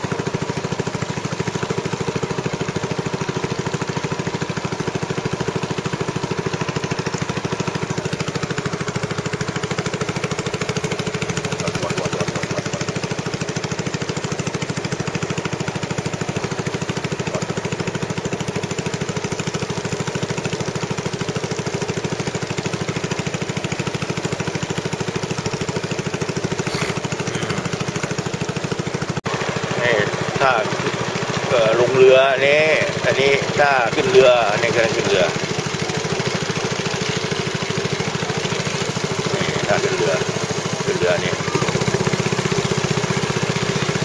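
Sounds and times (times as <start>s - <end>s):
small boat engine running: 0.0s - 44.0s.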